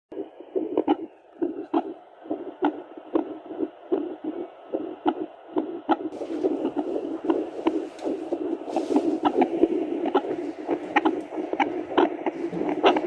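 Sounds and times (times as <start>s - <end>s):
heartbeat whooshing pulses: 0.1s - 13.0s.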